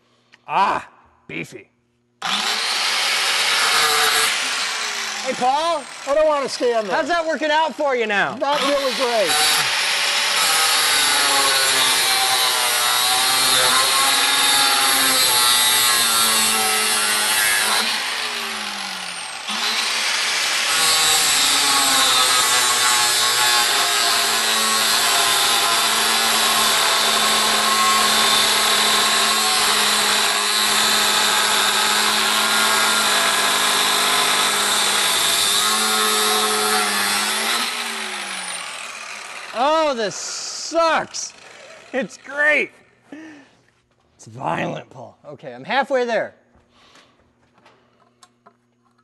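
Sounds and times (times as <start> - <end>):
angle grinder cutting metal: 2.2 - 7.6, 8.3 - 42.3.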